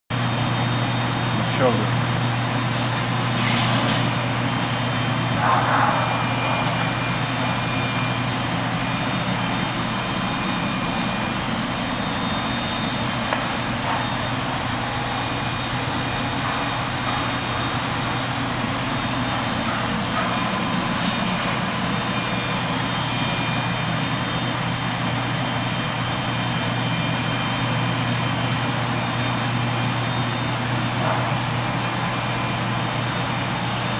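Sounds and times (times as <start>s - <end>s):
industrial machinery humming: 0.1s - 33.9s.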